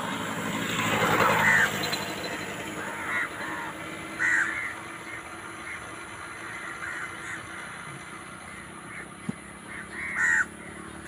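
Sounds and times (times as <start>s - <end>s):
harsh bird calls: 1.2s - 11.0s.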